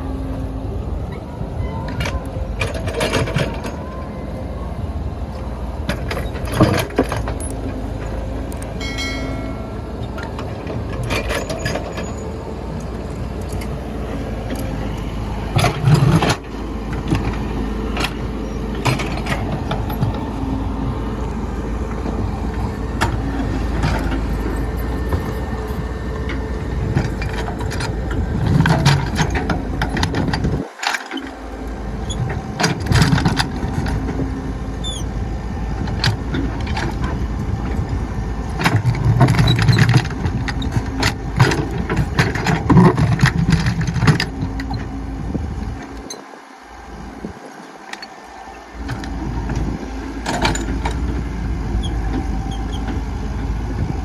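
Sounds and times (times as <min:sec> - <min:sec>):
excavator running: 0:00.0 - 0:54.0.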